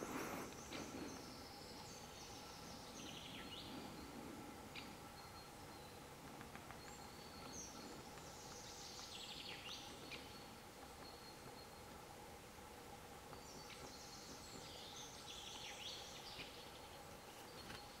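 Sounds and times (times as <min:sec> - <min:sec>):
faint background hiss: 0:00.0 - 0:18.0
songbird singing: 0:00.0 - 0:18.0.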